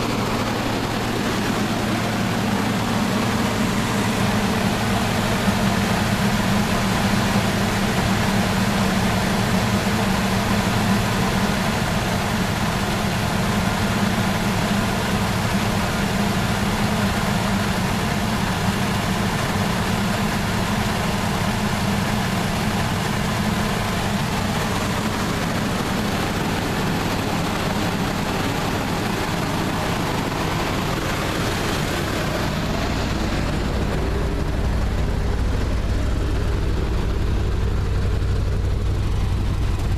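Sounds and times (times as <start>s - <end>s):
truck engine idling with misfire: 0.0s - 39.9s.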